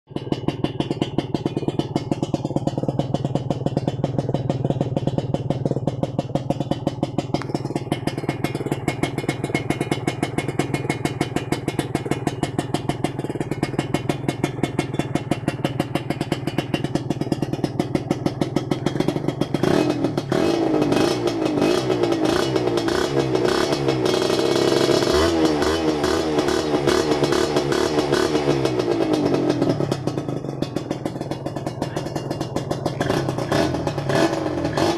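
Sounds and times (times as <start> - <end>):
two-stroke motorcycle engine revving: 0.1 - 34.9.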